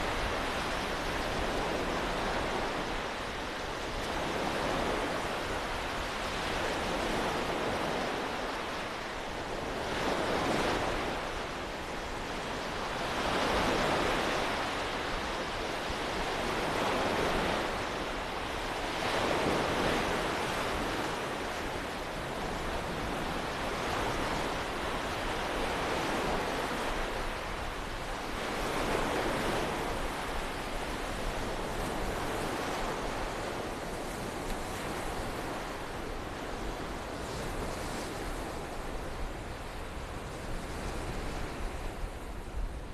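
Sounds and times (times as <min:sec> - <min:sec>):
small waves washing onto beach: 0:00.0 - 0:42.9
steady wind: 0:00.0 - 0:42.9.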